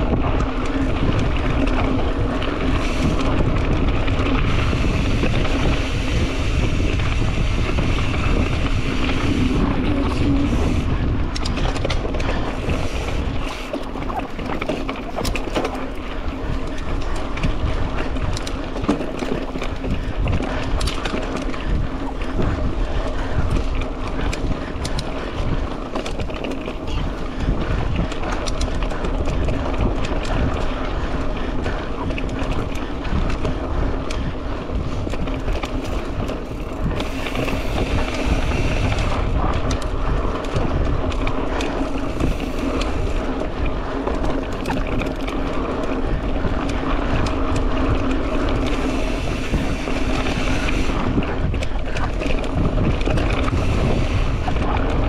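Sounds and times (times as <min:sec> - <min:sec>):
bike rattling over bumps: 0:00.0 - 0:55.0
bike tyres on dirt: 0:00.0 - 0:55.0
wind noise on microphone: 0:00.0 - 0:55.0.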